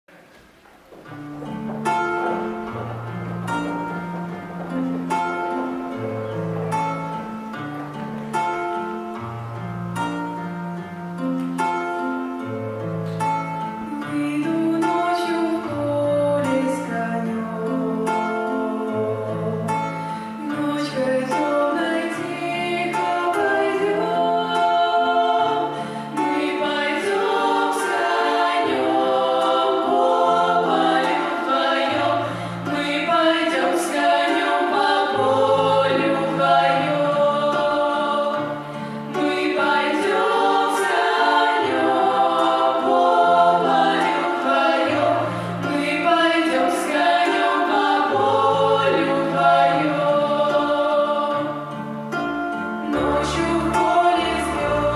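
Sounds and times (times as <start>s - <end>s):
instrumental accompaniment: 0.1s - 54.9s
choir singing: 1.2s - 9.2s, 13.6s - 54.9s.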